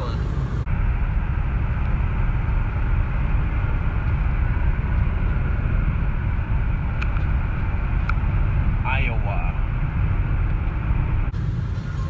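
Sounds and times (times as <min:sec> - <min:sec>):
vehicle cabin road rumble: 0:00.0 - 0:12.0.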